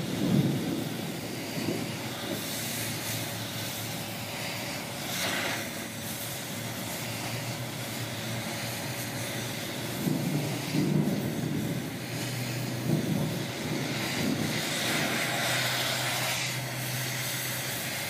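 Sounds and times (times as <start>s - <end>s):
hissing swell: 0.0s - 18.0s.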